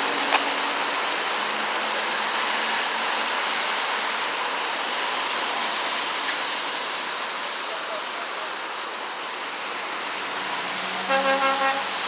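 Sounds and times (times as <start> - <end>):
highway traffic rushing: 0.0 - 12.0.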